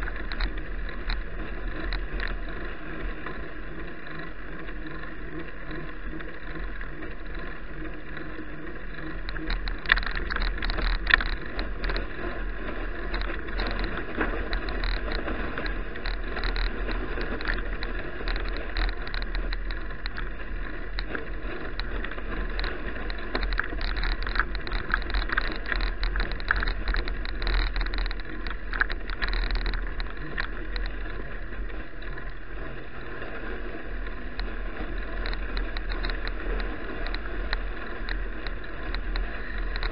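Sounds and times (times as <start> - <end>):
bicycle rattling clicks: 0.0 - 39.9
wind and tyres rumbling on road: 0.0 - 39.9.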